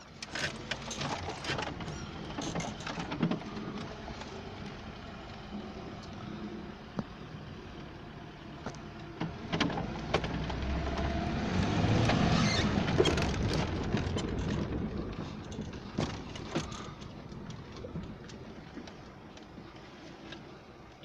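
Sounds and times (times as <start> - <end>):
motor vehicle running: 0.2 - 19.1.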